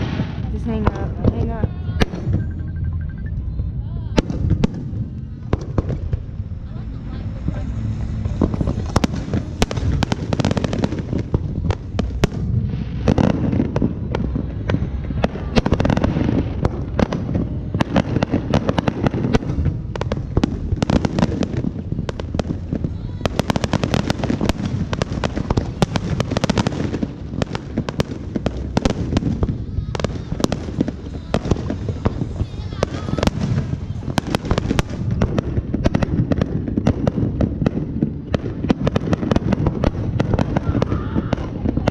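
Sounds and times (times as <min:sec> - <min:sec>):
fireworks crackling and popping: 0:00.0 - 0:41.9
low rumble of bangs: 0:00.0 - 0:41.9.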